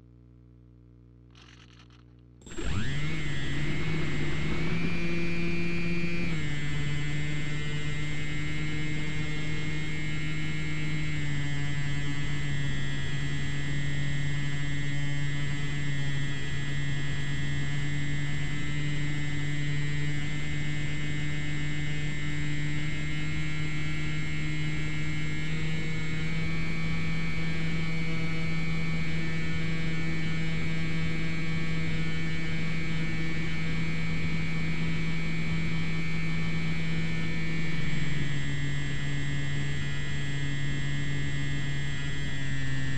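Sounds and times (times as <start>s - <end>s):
electric motor and propeller humming: 1.3s - 42.9s.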